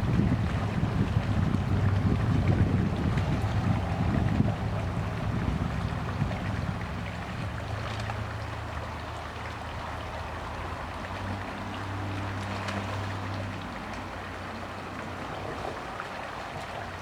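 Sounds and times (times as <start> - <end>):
low motor hum: 0.0 - 14.0
stream water rushing: 0.0 - 17.0.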